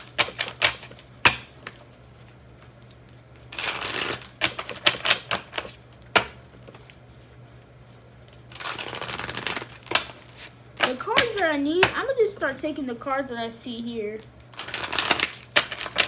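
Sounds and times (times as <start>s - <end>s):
cards riffle shuffling: 0.0s - 12.5s, 14.5s - 16.0s.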